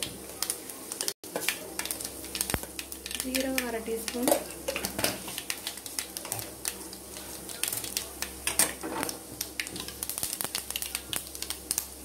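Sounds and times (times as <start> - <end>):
seeds spluttering in hot oil: 0.0 - 12.0.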